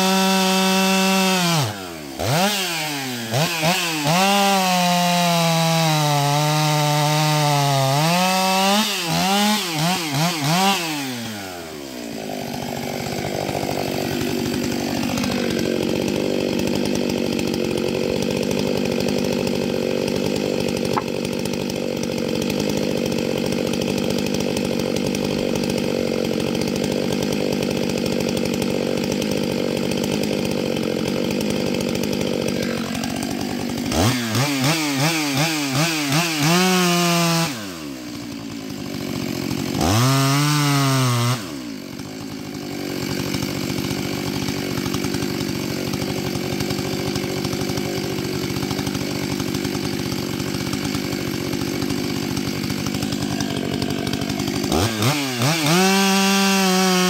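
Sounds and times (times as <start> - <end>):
chainsaw cutting logs: 0.0 - 57.0.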